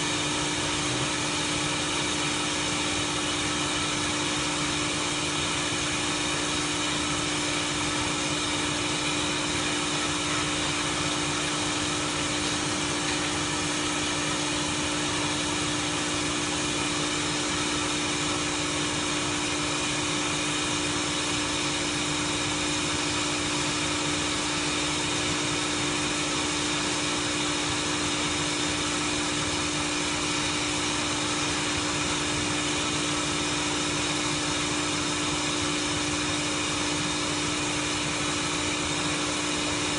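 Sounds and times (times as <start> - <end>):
welding machine hiss: 0.0 - 39.9
welding machine hum: 0.0 - 39.9.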